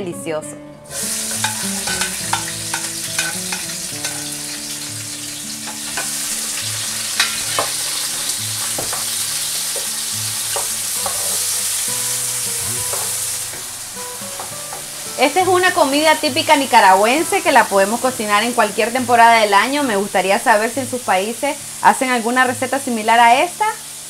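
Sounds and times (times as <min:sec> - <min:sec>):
vegetables sizzling in hot oil: 0:00.9 - 0:24.0.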